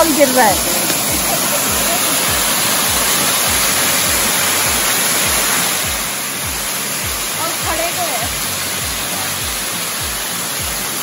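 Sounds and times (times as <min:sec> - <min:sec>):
background music with low beat: 0:00.0 - 0:11.0
waterfall pouring onto rocks: 0:00.0 - 0:11.0.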